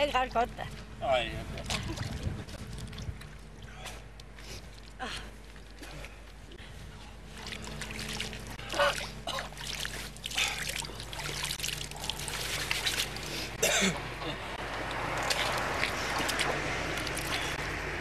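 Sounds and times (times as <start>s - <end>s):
water splashing in buckets: 1.4s - 6.2s, 7.0s - 18.0s.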